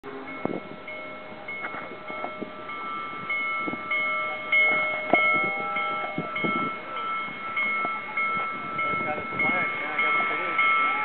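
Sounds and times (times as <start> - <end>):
railroad warning bell ringing: 0.1 - 11.0.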